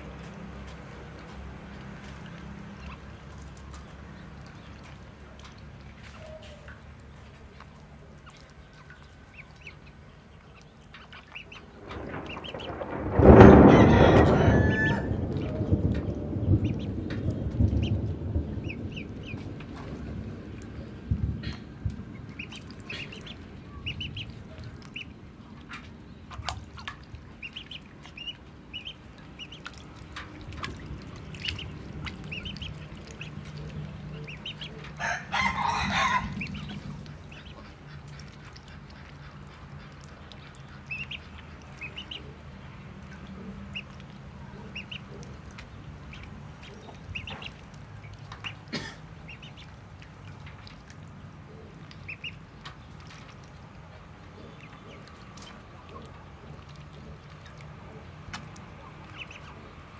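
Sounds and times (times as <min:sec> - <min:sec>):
ducklings peeping: 0:00.0 - 0:12.8, 0:14.7 - 0:59.9.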